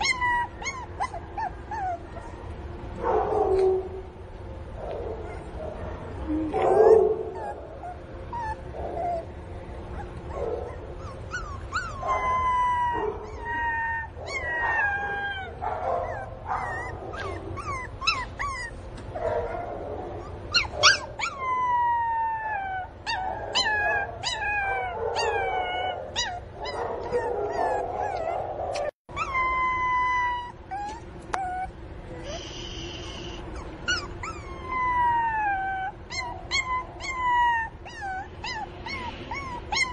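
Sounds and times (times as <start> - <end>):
puppy whining and yelping: 0.0 - 2.7, 5.2 - 5.8, 6.4 - 39.9.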